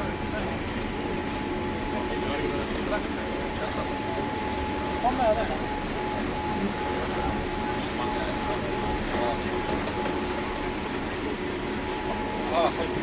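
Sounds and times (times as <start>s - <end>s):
aircraft rolling rumble: 0.0s - 13.0s
faint steady whine: 0.0s - 13.0s.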